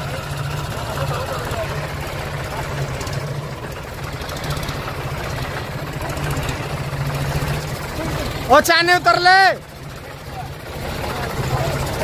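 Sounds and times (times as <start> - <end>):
tractor engines idling: 0.0 - 12.0.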